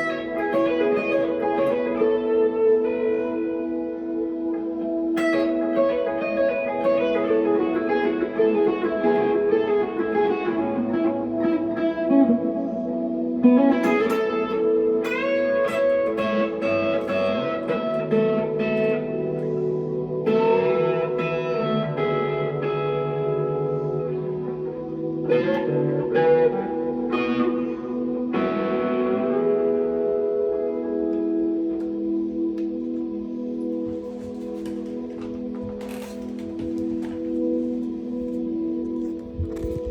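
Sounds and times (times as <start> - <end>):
electric guitar with delay and reverb: 0.0 - 39.9.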